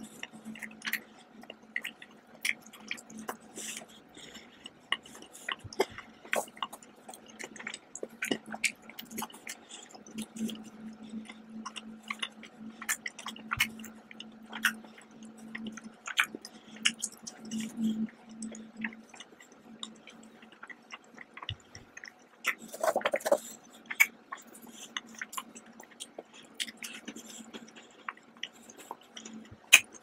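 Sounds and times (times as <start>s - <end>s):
chewing chocolate: 0.0s - 30.0s
steady low hum: 0.0s - 30.0s
wet mouth clicks and smacks: 4.9s - 30.0s.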